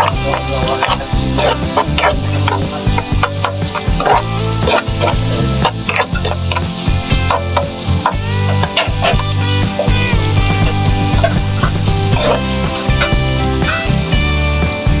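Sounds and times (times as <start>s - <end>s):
oil sizzling: 0.0s - 15.0s
spatula scraping frying pan: 0.0s - 15.0s.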